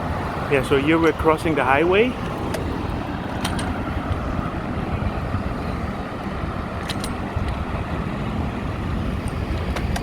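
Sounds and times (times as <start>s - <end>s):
passing road traffic: 0.0s - 10.0s.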